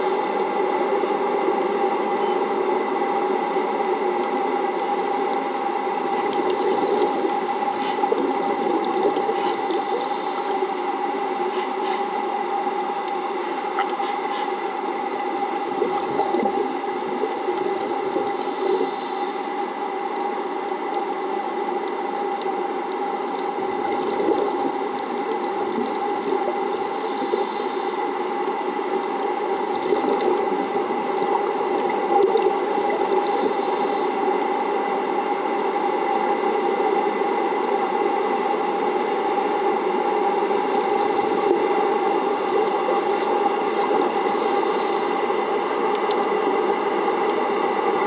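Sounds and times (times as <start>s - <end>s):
pumps droning underwater: 0.0s - 48.0s.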